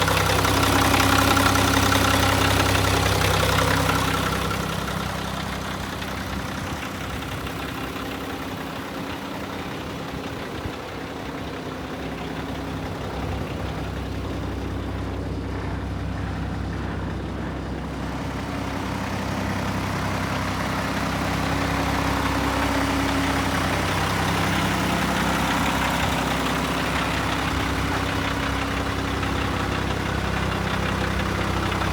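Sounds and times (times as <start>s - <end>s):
diesel truck engine idling: 0.0s - 31.9s.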